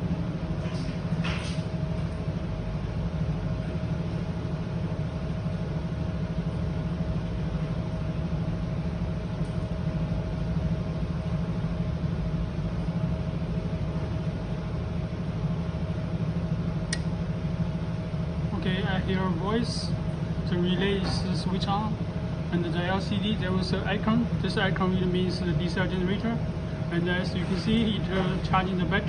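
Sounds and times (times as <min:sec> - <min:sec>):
diesel generator running: 0:00.0 - 0:29.0
faint steady hum: 0:00.0 - 0:29.0.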